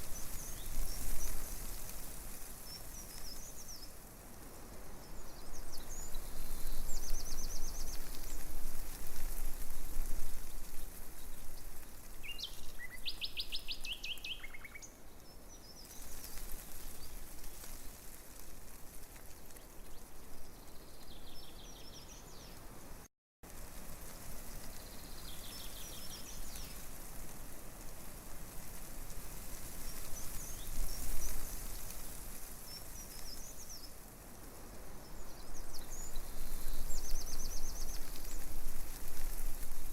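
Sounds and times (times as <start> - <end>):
small birds chirping: 0.0 - 4.0, 4.8 - 22.6, 24.7 - 27.0, 29.6 - 34.0, 35.0 - 39.9
breeze rustling leaves: 0.0 - 39.9.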